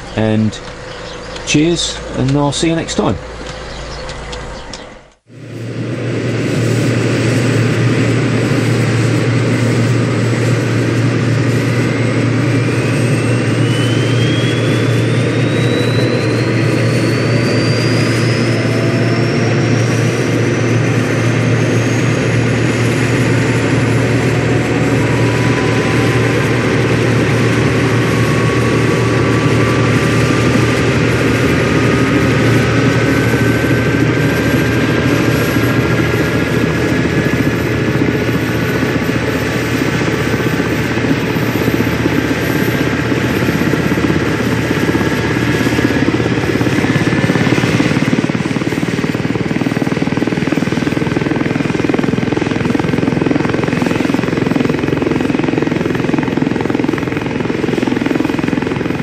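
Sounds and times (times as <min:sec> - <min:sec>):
helicopter turbine spooling up: 0:00.0 - 0:59.0.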